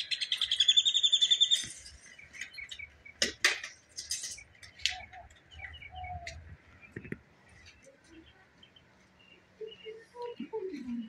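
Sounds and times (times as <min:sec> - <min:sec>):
bird chirps: 0:00.0 - 0:03.2, 0:04.3 - 0:10.4.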